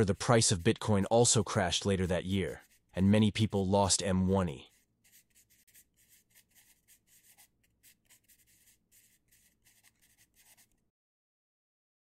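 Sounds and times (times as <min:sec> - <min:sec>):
pencil scratching on paper: 0:00.0 - 0:10.8.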